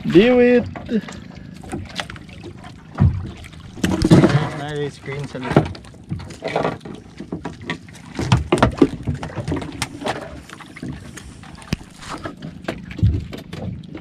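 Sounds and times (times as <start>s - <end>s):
water wash: 0.0s - 14.0s
wind: 0.0s - 14.0s
knocks and scrapes on wooden boat: 1.7s - 14.0s.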